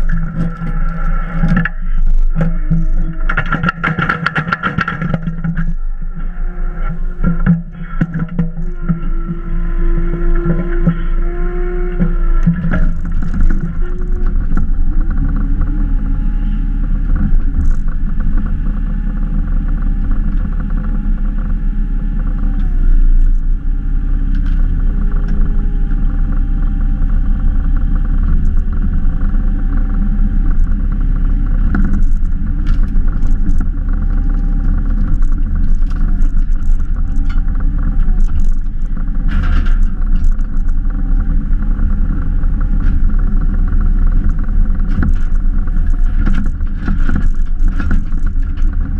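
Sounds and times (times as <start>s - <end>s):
excavator diesel engine running: 0.0s - 48.9s
hydraulic whine: 0.0s - 48.9s.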